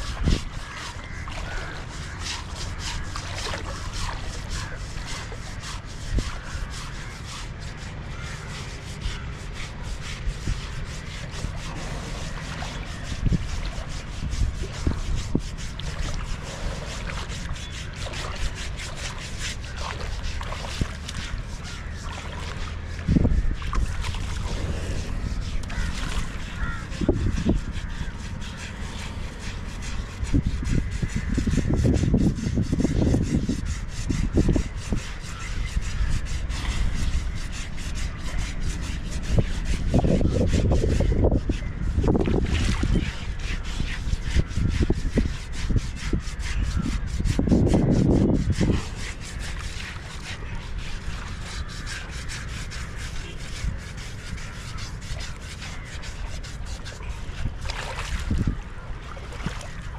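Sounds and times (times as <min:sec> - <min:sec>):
rough scrubbing strokes: 0:00.0 - 0:59.9.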